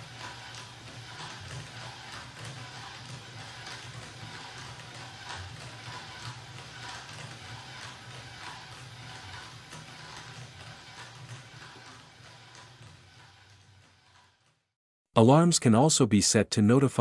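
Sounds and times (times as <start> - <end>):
electric motor humming: 0.0 - 14.3
bearing clicking and rattling: 0.0 - 14.6.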